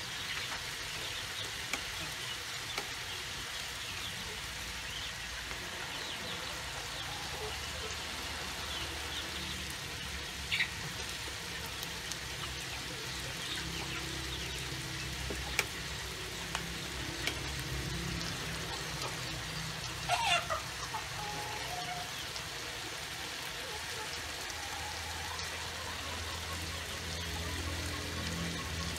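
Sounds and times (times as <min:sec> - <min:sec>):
vegetables sizzling in wok: 0:00.0 - 0:28.9.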